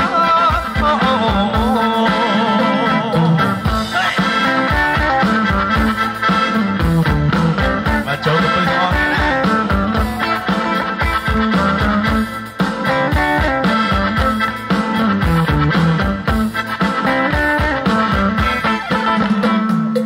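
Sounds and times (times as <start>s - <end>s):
drum beat: 0.0s - 20.0s
live dance band playing: 0.0s - 20.0s.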